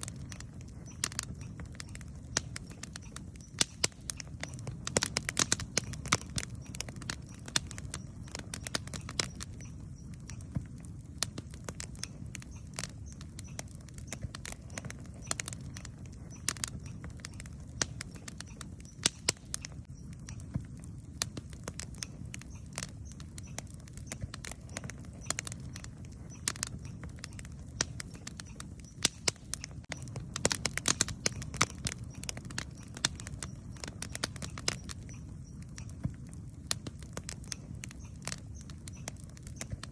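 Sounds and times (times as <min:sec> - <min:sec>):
campfire crackling and popping: 0:00.0 - 0:39.9
low rumble of fire: 0:00.0 - 0:39.9.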